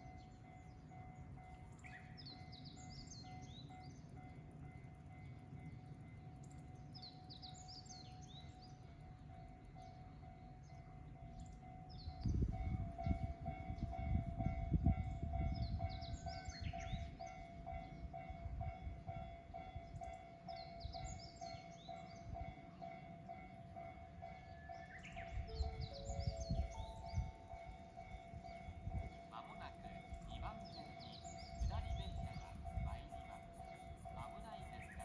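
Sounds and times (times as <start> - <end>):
birds chirping: 0.0 - 35.0
diesel railcar rumbling: 0.0 - 35.0.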